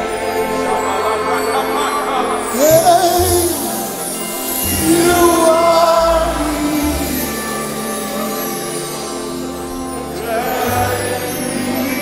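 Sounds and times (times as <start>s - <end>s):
live gospel music with singing: 0.0s - 12.0s.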